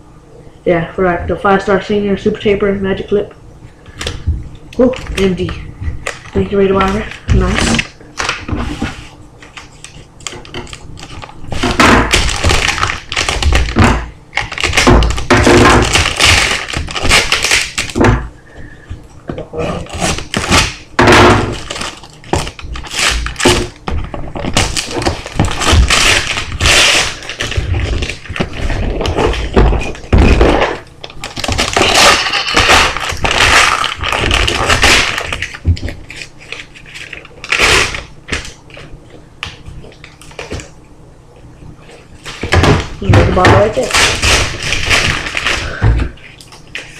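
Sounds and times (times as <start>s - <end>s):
packaging rustling and crinkling: 3.9s - 19.0s, 21.4s - 40.8s, 41.9s - 46.9s.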